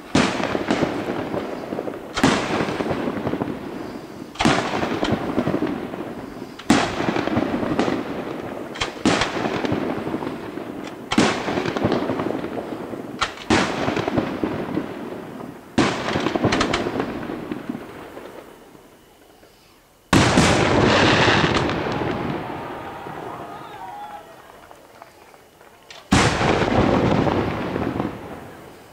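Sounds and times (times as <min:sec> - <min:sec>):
firework shells bursting: 0:00.0 - 0:18.5, 0:19.5 - 0:28.9.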